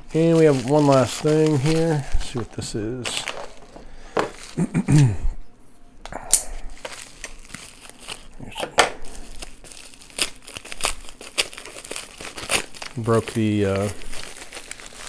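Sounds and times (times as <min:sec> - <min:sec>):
plastic bag crinkling and tearing: 0:00.0 - 0:05.0, 0:06.5 - 0:15.0.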